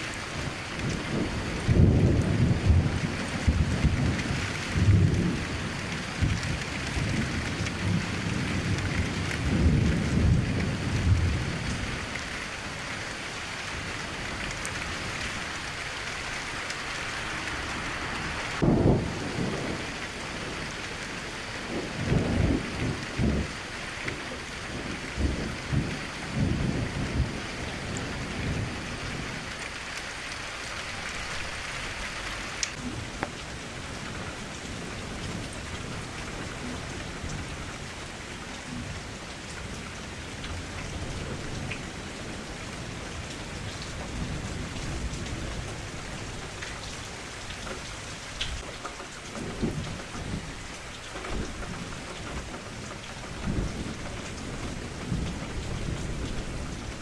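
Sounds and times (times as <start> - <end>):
rain against a window: 0.0 - 57.0
low rumbles of thunder: 0.1 - 15.8, 18.3 - 29.8, 32.7 - 57.0.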